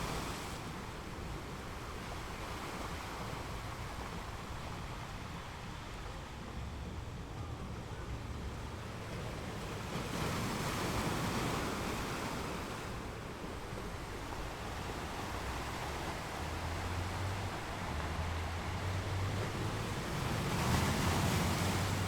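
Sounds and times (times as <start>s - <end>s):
ocean surf washing on beach: 0.0s - 22.0s.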